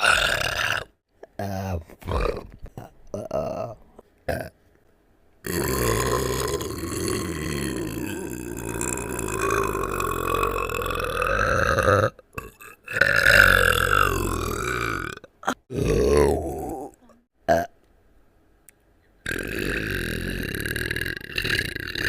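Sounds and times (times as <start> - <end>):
long cartoon burp: 0.0 - 1.0, 2.1 - 4.6, 5.4 - 17.8, 19.2 - 22.0.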